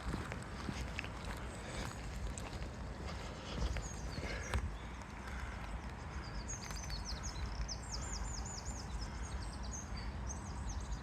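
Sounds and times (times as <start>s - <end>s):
songbird singing: 0.0s - 11.0s
steady low rumble: 0.0s - 11.0s.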